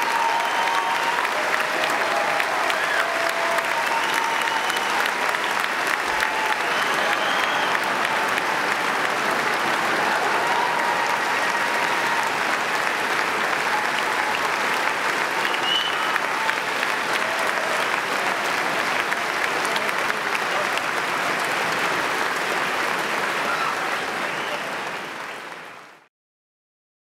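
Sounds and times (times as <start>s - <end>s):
voices cheering: 0.0s - 25.5s
audience applauding: 0.0s - 26.1s.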